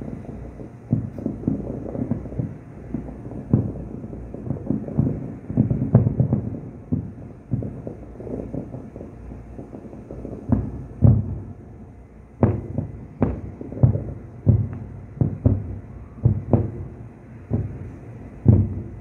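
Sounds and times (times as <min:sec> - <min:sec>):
distant firework booms: 0:00.0 - 0:11.6, 0:12.4 - 0:19.0.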